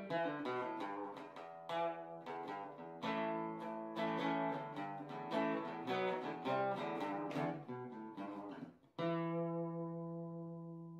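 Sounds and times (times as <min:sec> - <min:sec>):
acoustic guitar music: 0:00.0 - 0:10.9.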